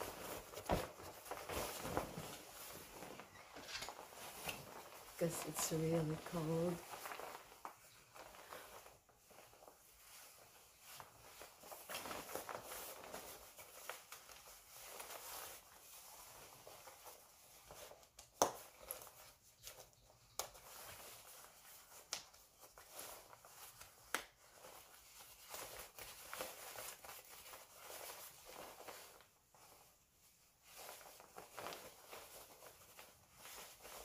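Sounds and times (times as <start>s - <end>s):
jacket fabric rustling: 0.0s - 34.0s.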